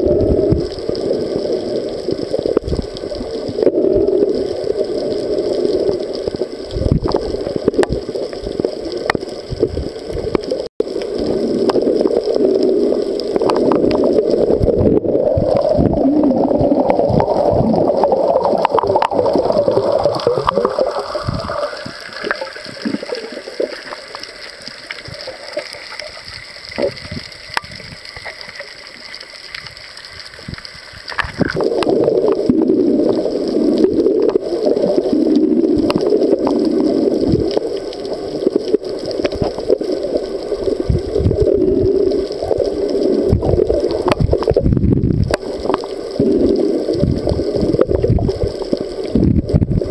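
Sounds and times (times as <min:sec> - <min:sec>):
muffled underwater gurgling: 0:00.0 - 0:49.9.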